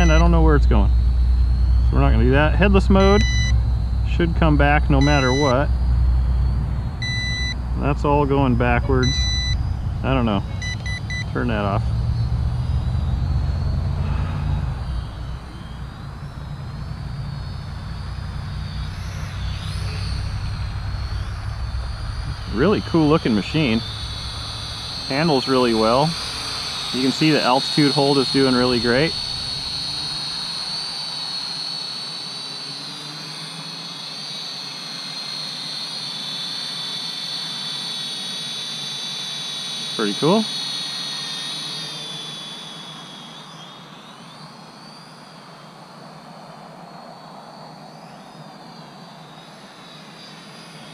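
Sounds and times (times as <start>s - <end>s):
quadcopter motors whining: 0.0s - 50.9s.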